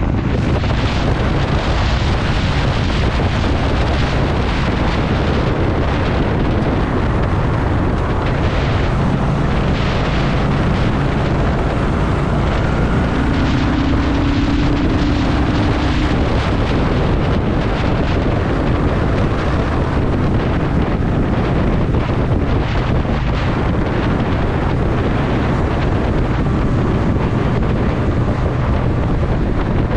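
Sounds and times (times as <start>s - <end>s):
city traffic: 0.0s - 29.9s
motorcycle engine running: 0.0s - 29.9s
wind buffeting microphone: 0.0s - 29.9s.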